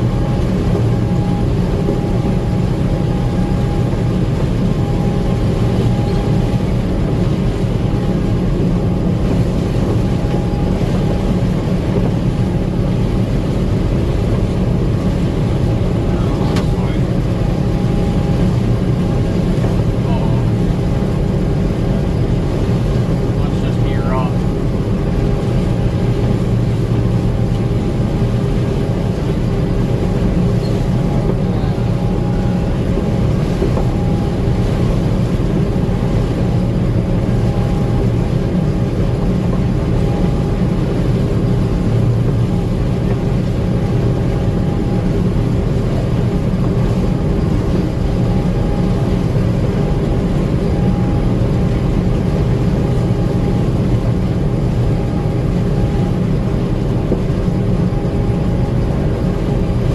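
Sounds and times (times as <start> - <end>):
combine harvester running: 0.0 - 59.9
machinery whine: 0.0 - 59.9.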